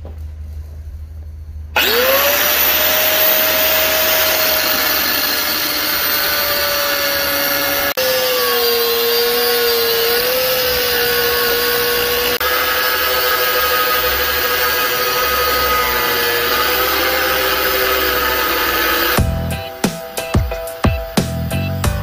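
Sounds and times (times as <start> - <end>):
angle grinder cutting steel: 1.8 - 20.2.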